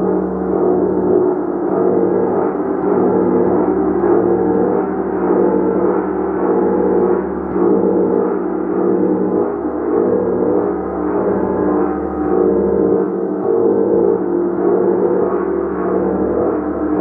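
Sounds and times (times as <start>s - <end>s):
gong ringing: 0.0s - 17.0s.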